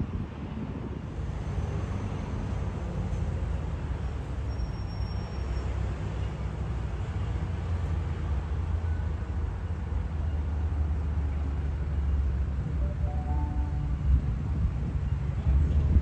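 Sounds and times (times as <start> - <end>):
train approaching with low rumble: 0.0 - 16.0.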